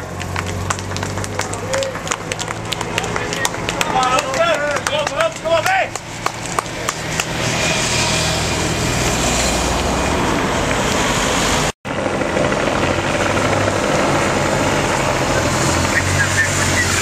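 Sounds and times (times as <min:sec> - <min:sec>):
passing vehicle engines droning: 0:00.0 - 0:17.0.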